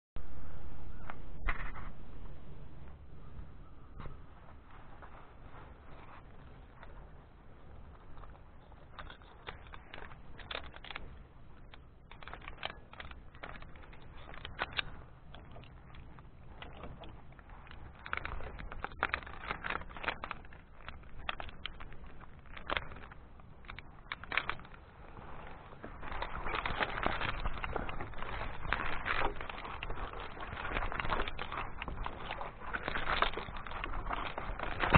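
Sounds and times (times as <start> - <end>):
low rumble of wind: 0.2 - 34.9
metal carabiners clicking: 6.0 - 34.9.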